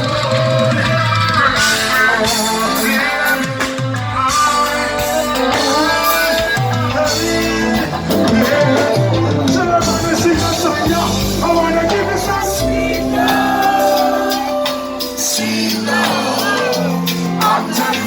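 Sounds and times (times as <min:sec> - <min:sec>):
live reggae band: 0:00.0 - 0:18.0.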